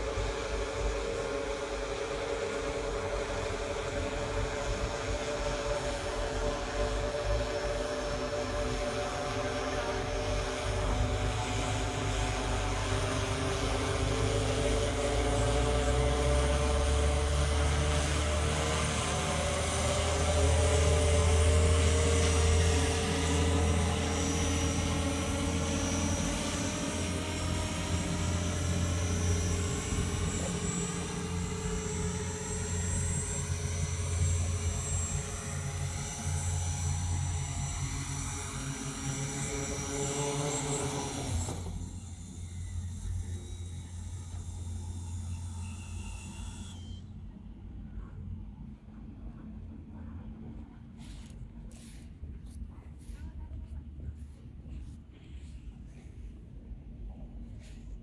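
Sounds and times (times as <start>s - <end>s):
drone propellers buzzing: 0.0s - 49.9s.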